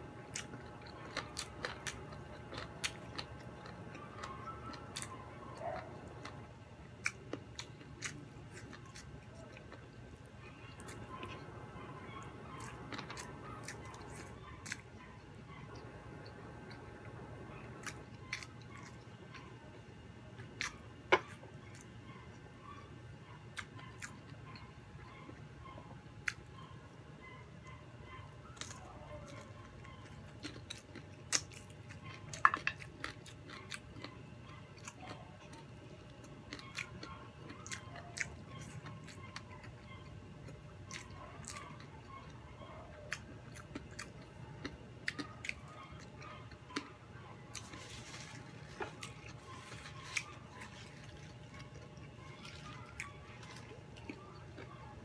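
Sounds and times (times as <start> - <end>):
chewing and biting crispy food: 0.0 - 26.7, 28.0 - 55.0.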